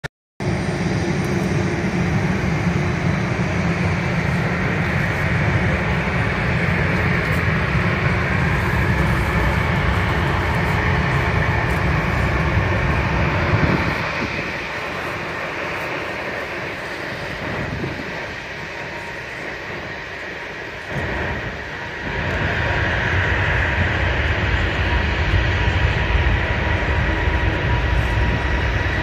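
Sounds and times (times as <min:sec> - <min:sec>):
jet engines roaring at takeoff: 0:00.4 - 0:29.0.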